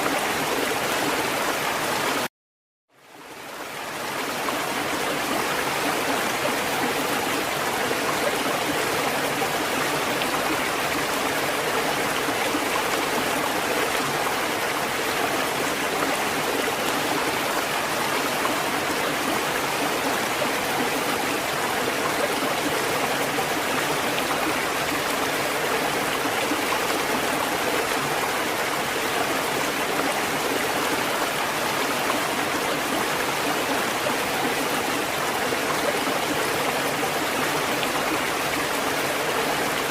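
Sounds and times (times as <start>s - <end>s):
rushing water: 0.0s - 2.3s, 2.9s - 39.9s.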